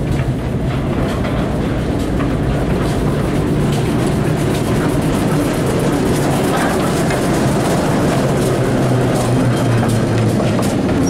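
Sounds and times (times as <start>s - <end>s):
locomotive engine rumbling: 0.0s - 11.0s.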